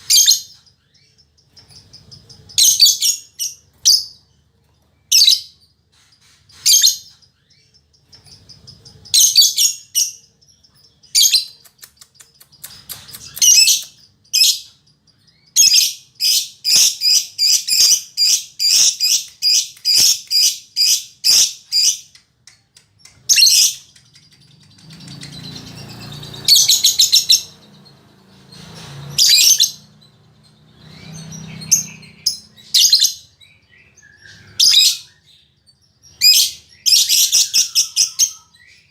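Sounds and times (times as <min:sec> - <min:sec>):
lovebird chirping: 0:00.0 - 0:38.9.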